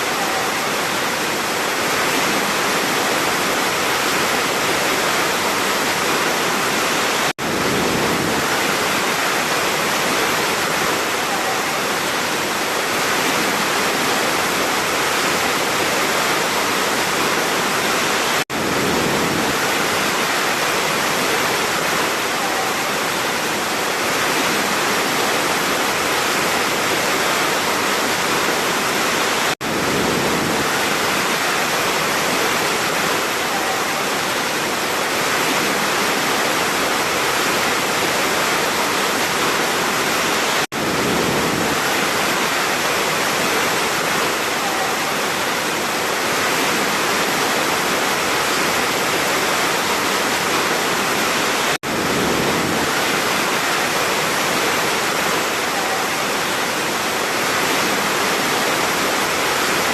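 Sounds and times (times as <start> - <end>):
large waterfall pouring: 0.0 - 59.9.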